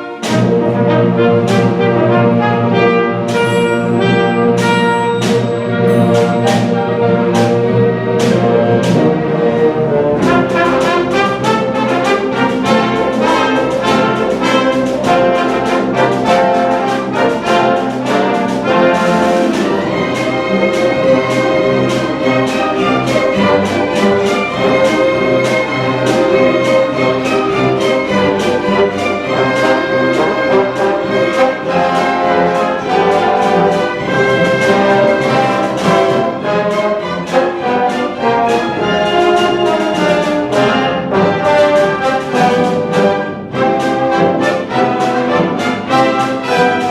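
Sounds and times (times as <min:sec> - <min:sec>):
brass repeated notes: 0:00.0 - 0:46.9
symphony orchestra playing: 0:00.0 - 0:46.9.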